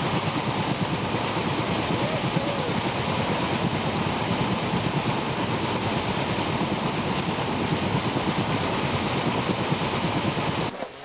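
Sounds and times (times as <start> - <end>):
rotor fluttering noise: 0.0 - 10.8
helicopter turbine whine: 0.0 - 11.0.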